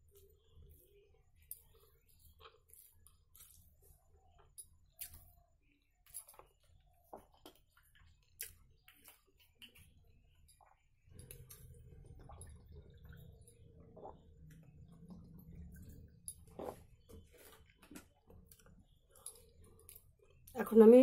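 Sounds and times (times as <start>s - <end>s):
low steady hum: 0.0s - 21.0s
wet chewing sounds: 0.1s - 20.6s.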